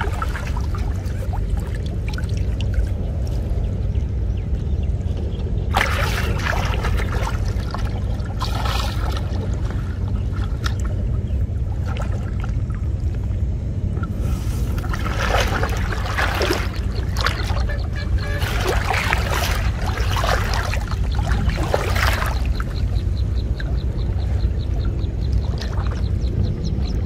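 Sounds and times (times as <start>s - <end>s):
water sloshing around legs: 0.0s - 3.7s, 5.7s - 13.4s, 14.0s - 27.0s
low rumble: 0.0s - 27.0s.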